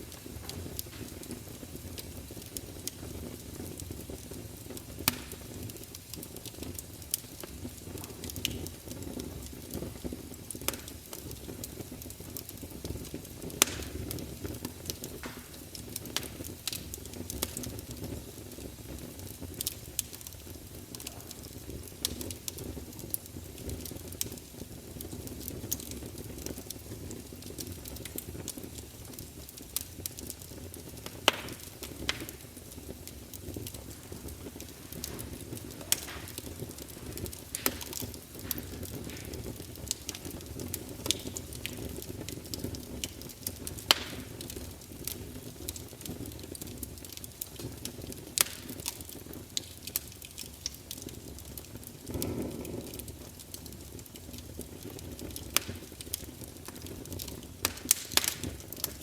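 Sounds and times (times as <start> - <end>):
campfire rumbling and crackling: 0.0 - 59.0
loud fire pops: 0.0 - 59.0.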